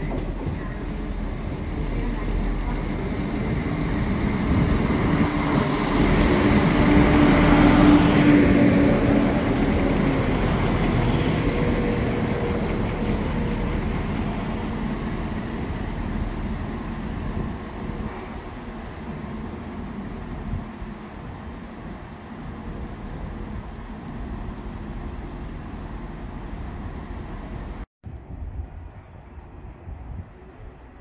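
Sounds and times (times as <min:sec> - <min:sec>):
train engine passing: 0:00.0 - 0:31.0.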